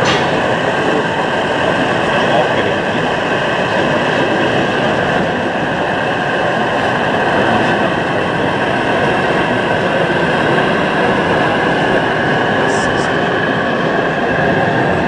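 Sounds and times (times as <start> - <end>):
model locomotive running on track: 0.0 - 15.0.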